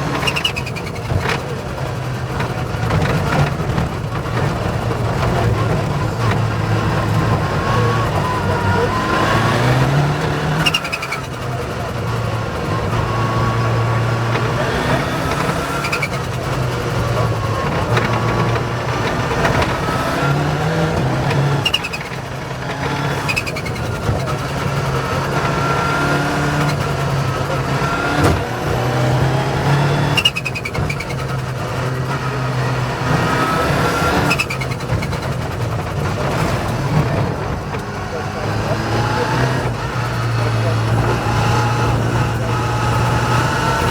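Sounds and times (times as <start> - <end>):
rally car engine revving: 0.0 - 43.9.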